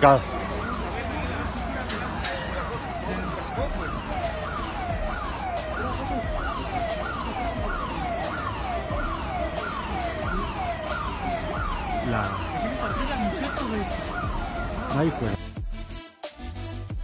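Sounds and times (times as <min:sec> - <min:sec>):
siren sweeping up and down: 0:00.0 - 0:15.4.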